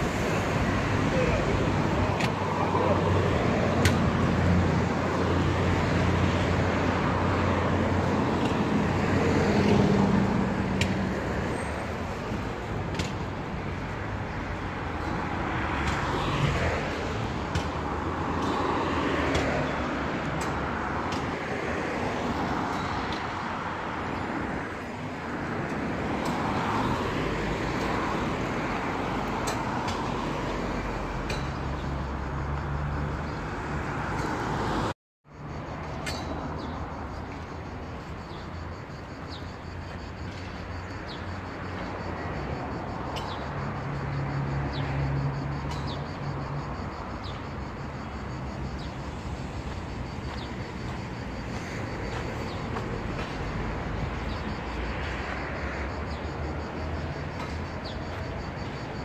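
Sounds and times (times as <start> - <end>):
cars passing: 0.0 - 59.0
steady traffic hum: 0.0 - 59.0.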